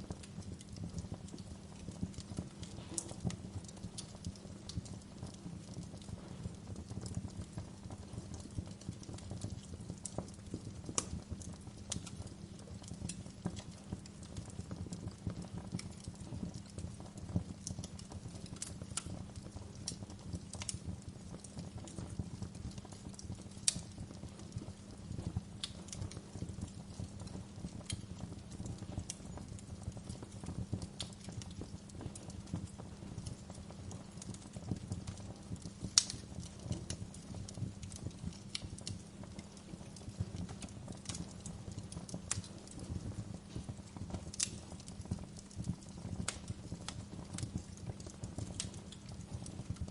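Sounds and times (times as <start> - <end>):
logs crackling and popping: 0.0 - 49.9
low rumble of flames: 0.0 - 49.9.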